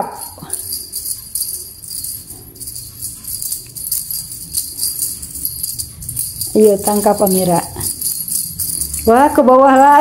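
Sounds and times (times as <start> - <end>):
small jingle bells jingling: 0.0 - 10.0.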